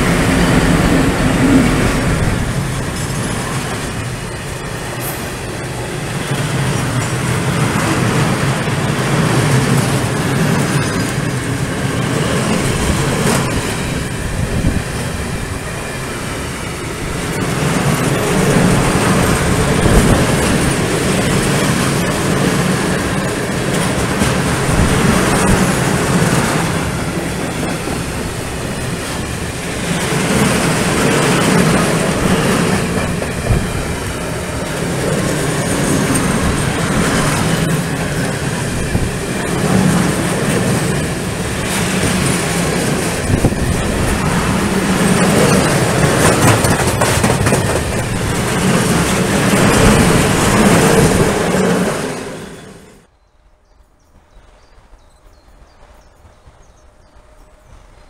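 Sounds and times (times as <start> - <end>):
freight train wheels clattering on rails: 0.0 - 53.1.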